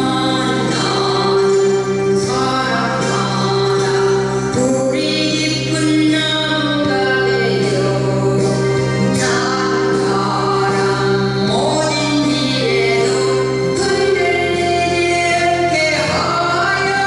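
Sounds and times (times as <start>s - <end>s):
instrumental backing: 0.0s - 17.0s
woman singing into microphone: 0.0s - 17.0s.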